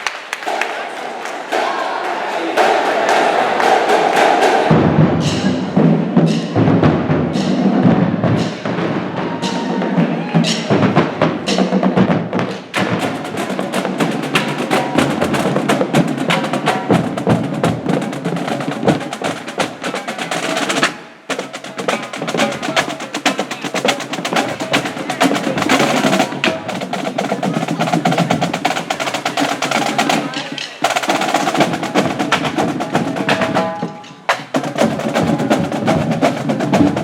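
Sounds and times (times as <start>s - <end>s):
snare drum rolls: 0.0s - 37.0s
marching drum cadence: 0.4s - 37.0s.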